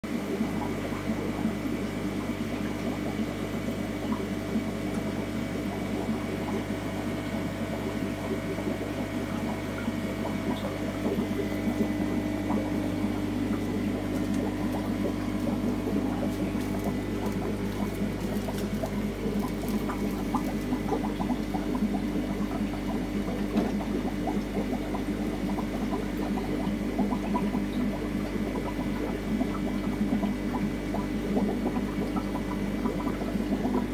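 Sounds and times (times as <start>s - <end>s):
aquarium pumps humming: 0.0s - 33.9s
water bubbling and trickling: 0.1s - 33.9s.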